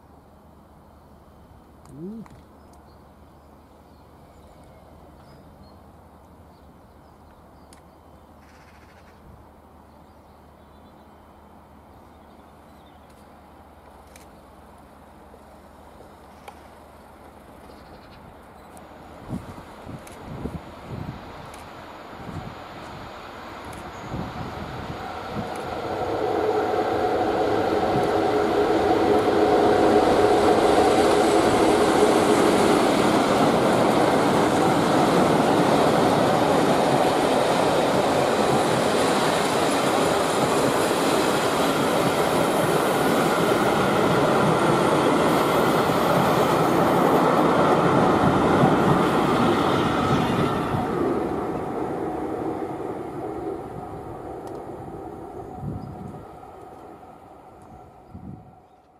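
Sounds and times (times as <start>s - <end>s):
diesel locomotives passing: 9.2s - 58.9s
train coaches rolling by: 11.3s - 58.9s.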